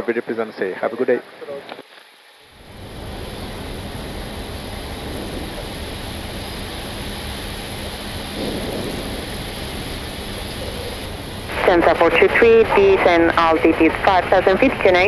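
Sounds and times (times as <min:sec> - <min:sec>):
faint low hum: 0:02.5 - 0:15.0.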